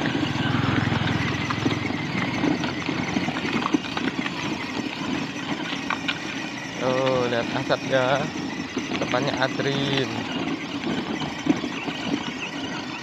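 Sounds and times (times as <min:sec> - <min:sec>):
footsteps on gravel: 0:00.0 - 0:12.8
toy wheels rolling on gravel: 0:00.0 - 0:13.0.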